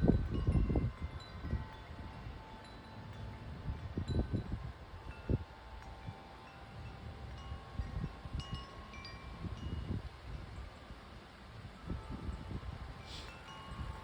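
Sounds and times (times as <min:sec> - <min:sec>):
wind buffeting microphone: 0:00.0 - 0:14.0
wind chimes ringing: 0:00.0 - 0:14.0.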